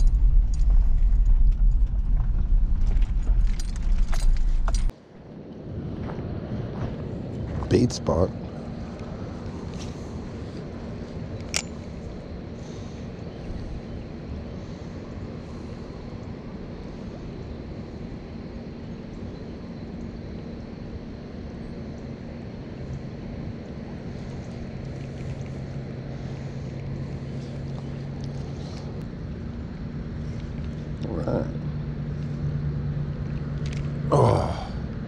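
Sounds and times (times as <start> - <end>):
low motor hum: 0.0 - 35.0.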